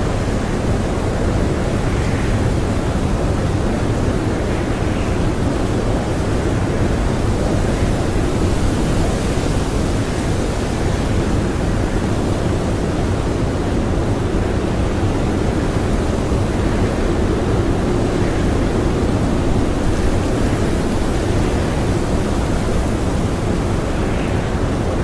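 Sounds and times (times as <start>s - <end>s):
blizzard wind: 0.0s - 25.0s.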